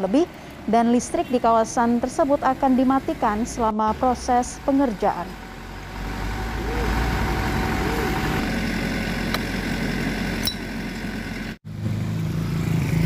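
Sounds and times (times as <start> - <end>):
low engine hum: 0.0 - 13.0
traffic passing: 0.0 - 13.0.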